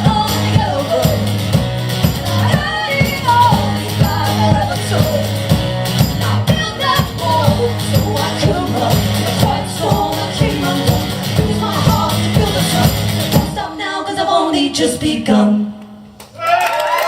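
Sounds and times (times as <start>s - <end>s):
live band with singing: 0.0s - 16.6s.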